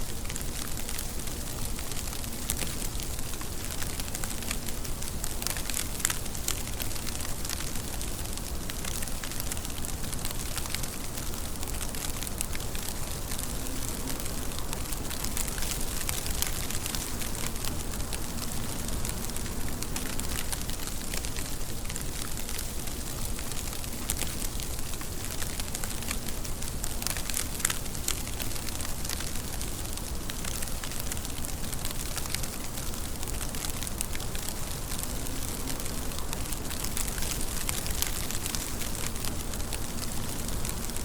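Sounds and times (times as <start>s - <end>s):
rain patter on hard surface: 0.0s - 41.0s.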